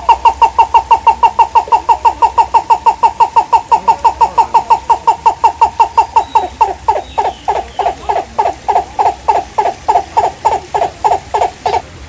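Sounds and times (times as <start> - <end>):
bird calling loud notes: 0.0 - 12.0.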